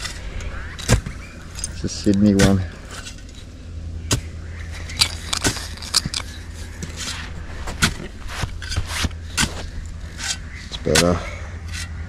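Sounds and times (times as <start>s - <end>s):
digging through dirt and glass: 0.0s - 12.0s
steady low hum: 0.0s - 12.0s.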